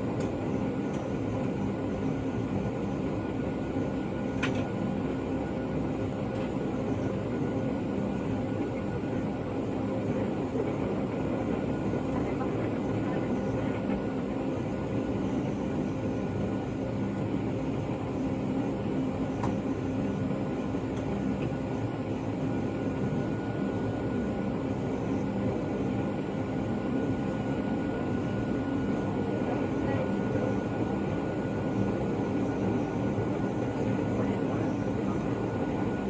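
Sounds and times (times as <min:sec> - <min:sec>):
aircraft cabin drone: 0:00.0 - 0:36.0.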